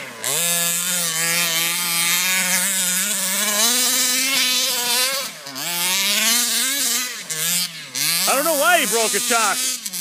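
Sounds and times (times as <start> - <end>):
small two-stroke engine revving: 0.0 - 10.0.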